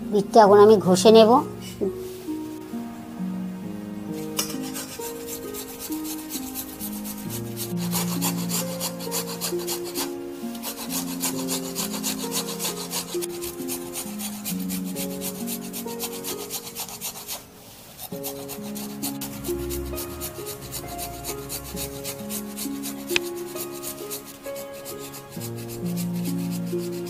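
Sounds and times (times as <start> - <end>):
background music: 0.0 - 27.0
beetroot rasping on metal grater: 4.4 - 17.4, 18.0 - 27.0.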